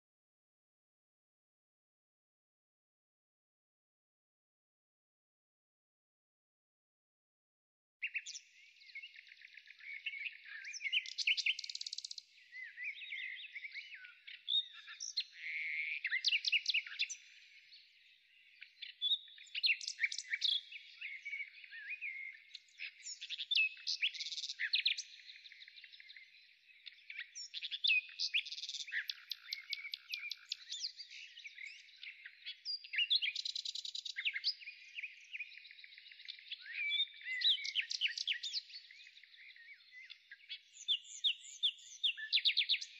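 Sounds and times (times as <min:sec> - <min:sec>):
birds chirping and trilling: 0:08.0 - 0:42.9.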